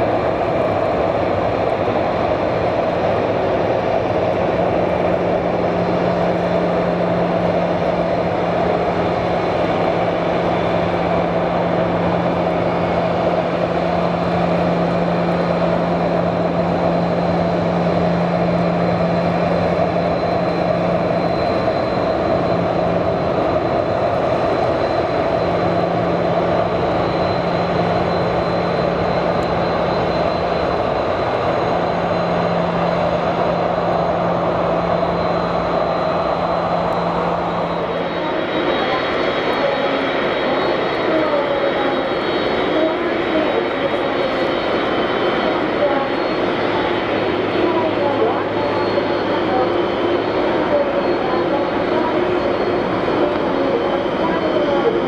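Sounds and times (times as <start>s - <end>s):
jet engines idling: 0.0s - 55.0s
faint high whine: 5.2s - 55.0s.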